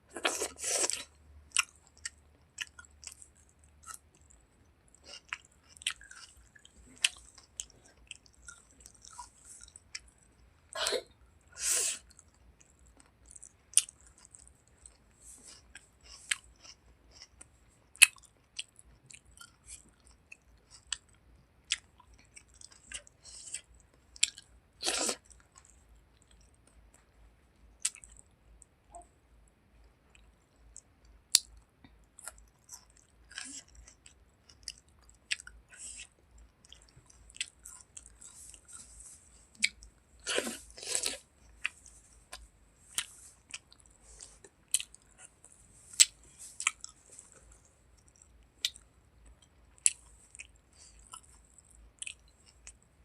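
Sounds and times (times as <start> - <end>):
person chewing food: 0.1 - 10.5, 12.0 - 27.1, 27.8 - 29.1, 30.1 - 52.9.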